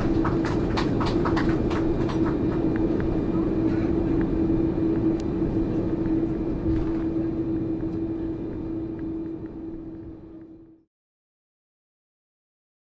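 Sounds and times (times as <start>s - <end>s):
aircraft cabin engine hum: 0.0s - 10.9s.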